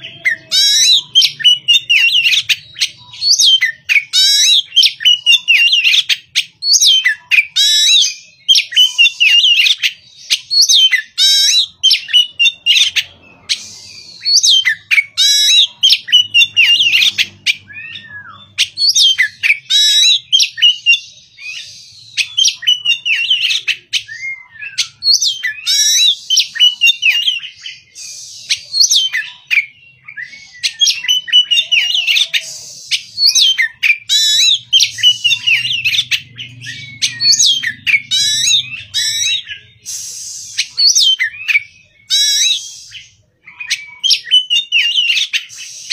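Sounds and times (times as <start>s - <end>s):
bird singing whistled phrases: 0.0s - 45.9s.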